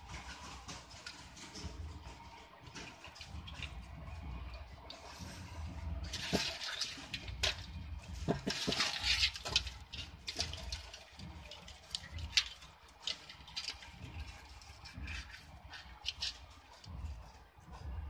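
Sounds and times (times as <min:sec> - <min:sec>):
shallow water splashing: 0:02.1 - 0:16.8.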